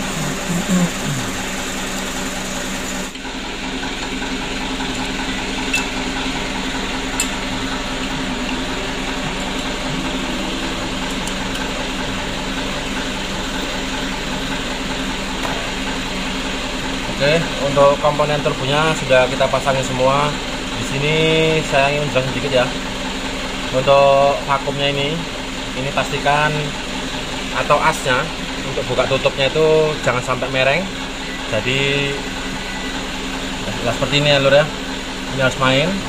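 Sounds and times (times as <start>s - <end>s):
machine hum: 0.0s - 36.0s.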